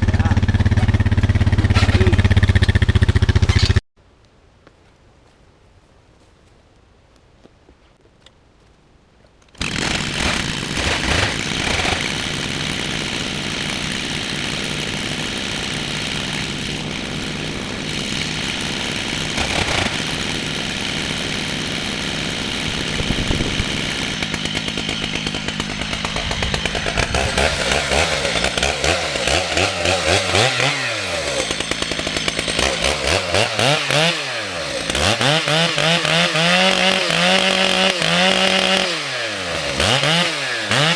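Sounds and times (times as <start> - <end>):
chainsaw cutting log: 0.0 - 3.8, 9.5 - 40.9.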